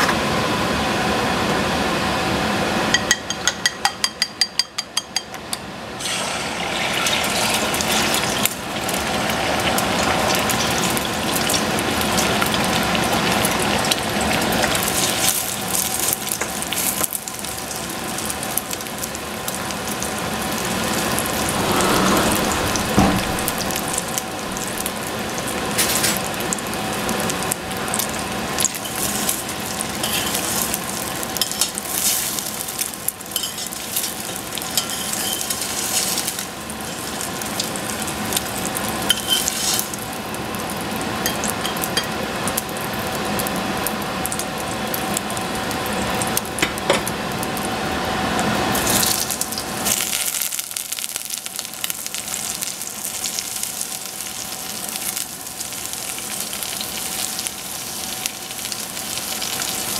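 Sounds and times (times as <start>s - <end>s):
egg sizzling in hot oil: 6.0s - 47.8s, 48.4s - 59.9s.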